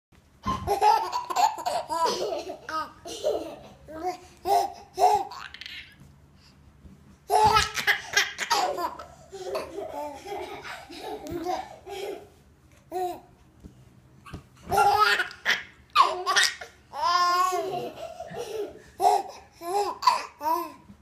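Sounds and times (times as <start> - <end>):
baby giggling: 0.5 - 6.0, 7.3 - 13.3, 14.3 - 20.7.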